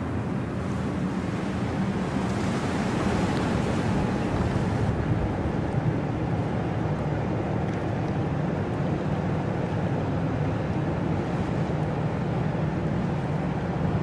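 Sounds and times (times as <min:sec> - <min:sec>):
ship engine rumbling: 0:00.0 - 0:14.0.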